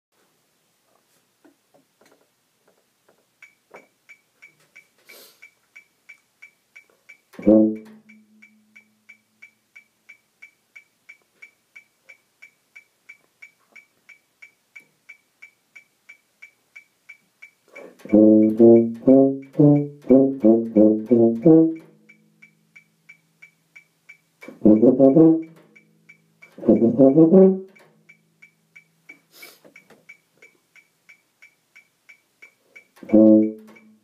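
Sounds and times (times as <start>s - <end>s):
metronome clicks: 3.2s - 34.0s.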